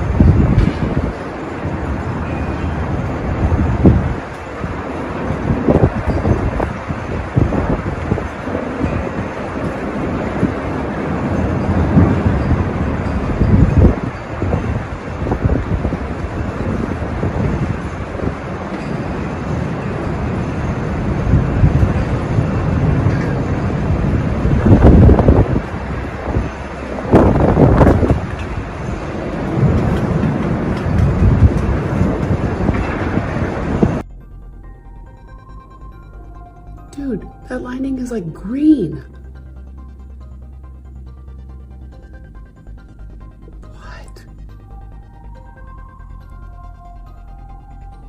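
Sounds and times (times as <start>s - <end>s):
storm wind buffeting microphone: 0.0s - 48.0s.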